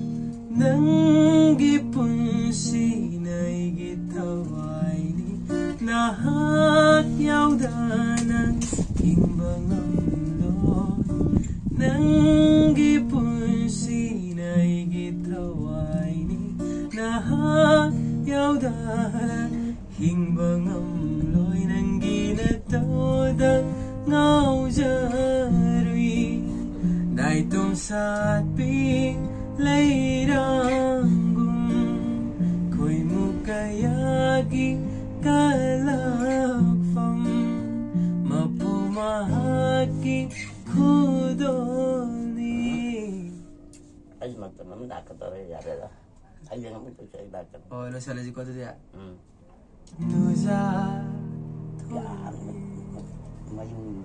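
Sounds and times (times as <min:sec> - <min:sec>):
man singing: 0:00.0 - 0:43.5, 0:49.9 - 0:54.0
acoustic guitar strumming: 0:00.0 - 0:46.3, 0:48.8 - 0:54.0.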